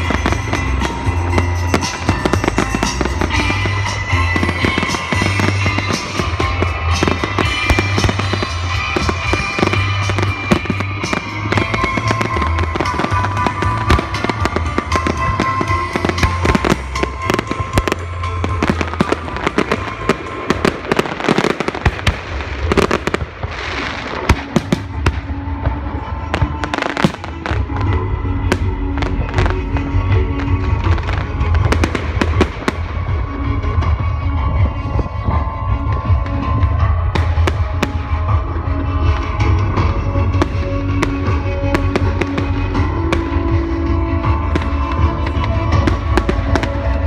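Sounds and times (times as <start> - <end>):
fireworks bursting: 0.0 - 47.0
music playing: 0.0 - 47.0.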